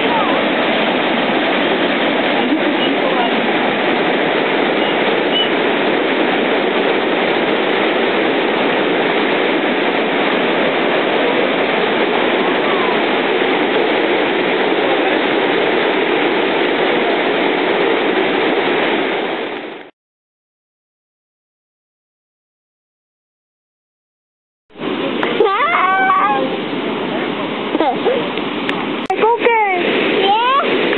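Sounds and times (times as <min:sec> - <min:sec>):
water rushing over a weir: 0:00.0 - 0:19.9, 0:24.7 - 0:30.9.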